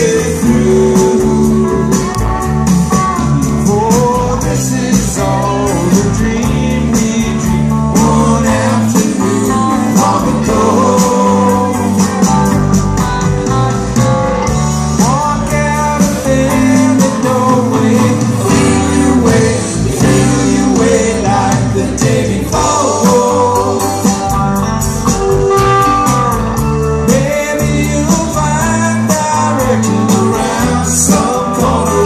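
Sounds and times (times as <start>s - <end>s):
voices singing: 0.0s - 12.8s, 15.0s - 32.0s
live rock band playing: 0.0s - 32.0s.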